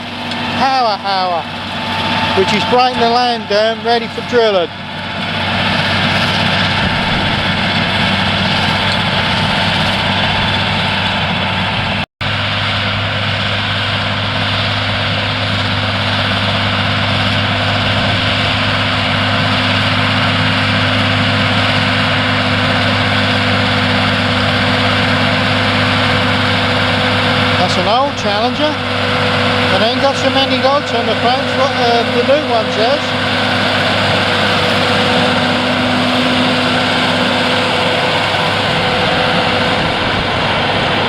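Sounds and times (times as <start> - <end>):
tractor engine droning: 0.0 - 41.0.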